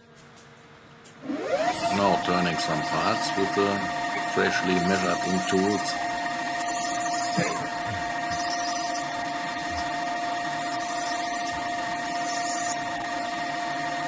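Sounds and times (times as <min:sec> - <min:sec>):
lathe running with whine: 0:01.2 - 0:14.0.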